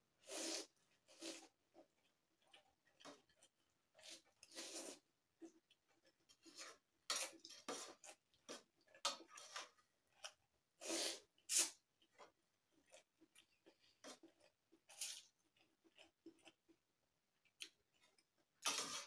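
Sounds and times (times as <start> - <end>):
person slurping and chewing noodles: 0.2 - 19.0.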